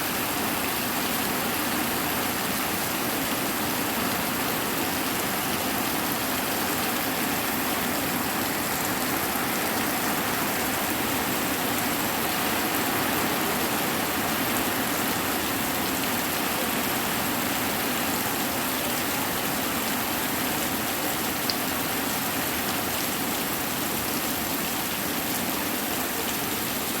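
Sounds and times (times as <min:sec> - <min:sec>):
hard rain pouring: 0:00.0 - 0:27.0.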